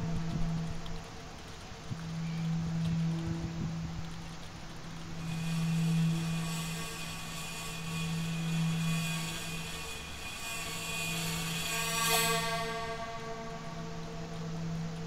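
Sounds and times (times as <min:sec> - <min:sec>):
high sustained tones and hiss: 0:00.0 - 0:15.0
low electronic hum: 0:00.0 - 0:15.0.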